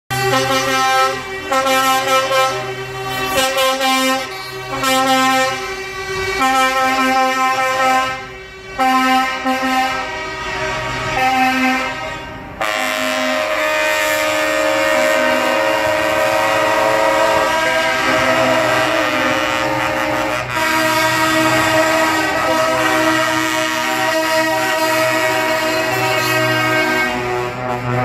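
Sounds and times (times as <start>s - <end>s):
lorry air horns honking: 0.1s - 28.0s
loud horn chord long blast: 0.1s - 28.0s.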